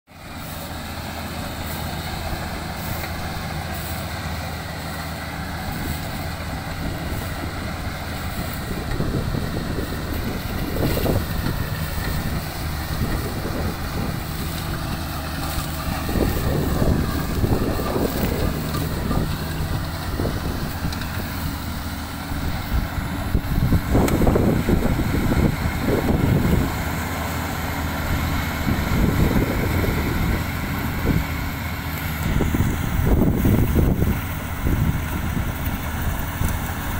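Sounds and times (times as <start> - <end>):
combine harvester engine drone: 0.1 - 36.9
wind gusts on microphone: 0.6 - 36.9.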